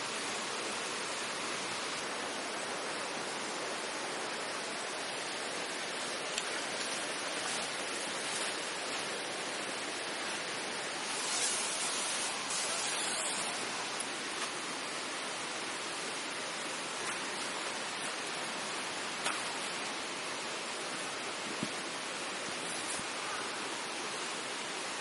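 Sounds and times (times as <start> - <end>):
running water rushing: 0.0 - 25.0
rustle: 0.0 - 25.0.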